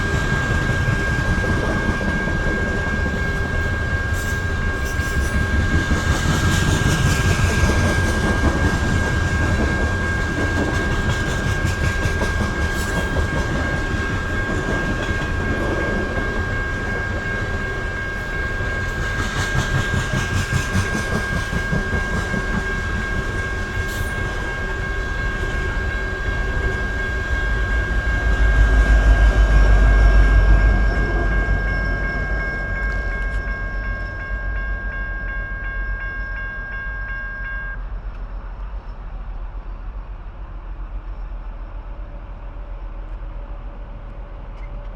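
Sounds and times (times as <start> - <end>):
high ringing tone: 0.0 - 37.8
train wheels clacking: 0.0 - 39.0.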